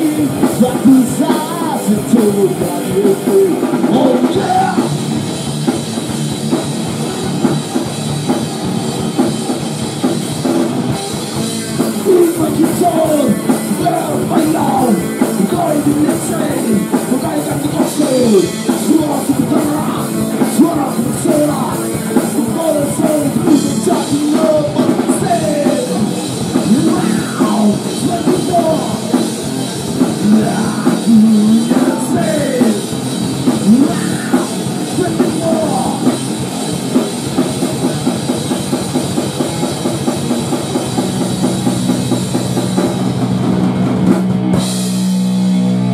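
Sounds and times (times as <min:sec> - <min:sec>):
drum kit: 0:00.0 - 0:45.9
rock band playing grunge: 0:00.0 - 0:45.9
sliding pitched guitar line: 0:00.0 - 0:45.9.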